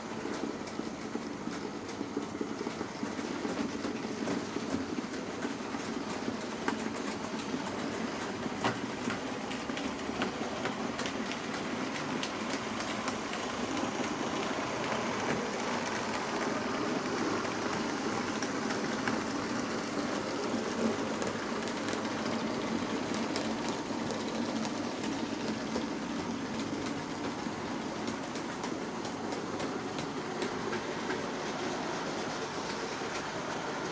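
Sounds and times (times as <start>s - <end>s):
model train wheels clicking: 0.0s - 33.9s.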